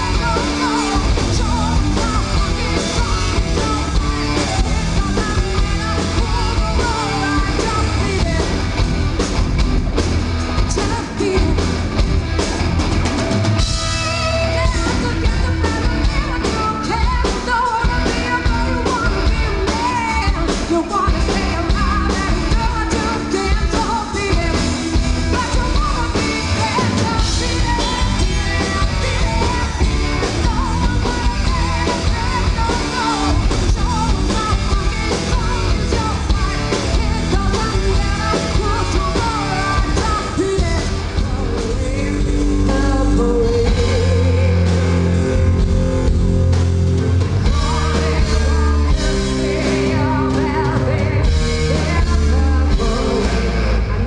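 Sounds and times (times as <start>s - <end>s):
woman singing into a microphone: 0.0s - 8.7s, 10.6s - 11.8s, 13.9s - 45.2s, 47.4s - 54.0s
drum kit: 0.0s - 54.0s
guitars: 0.0s - 54.0s.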